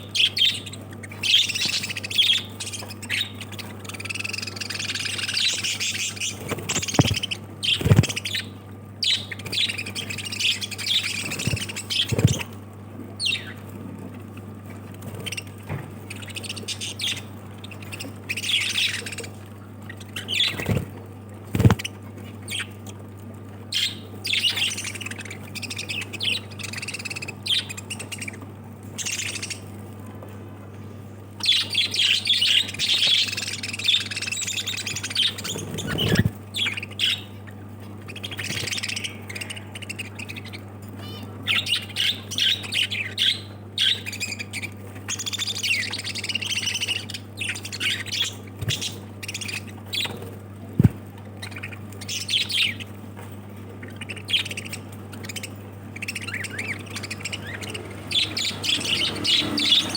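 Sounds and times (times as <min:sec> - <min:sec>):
lovebirds chirping and squawking: 0:00.0 - 0:12.6, 0:13.2 - 0:13.8, 0:14.4 - 0:23.1, 0:23.7 - 0:29.8, 0:31.3 - 0:59.9.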